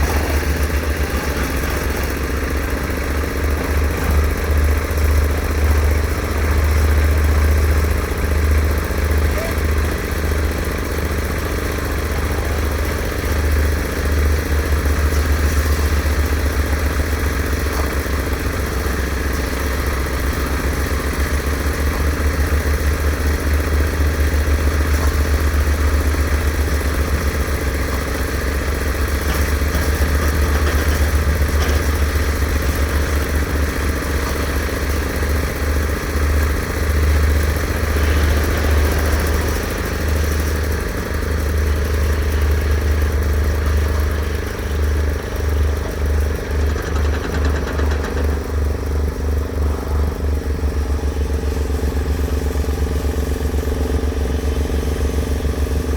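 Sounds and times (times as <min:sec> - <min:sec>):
engine running with low rumble: 0:00.0 - 0:55.9.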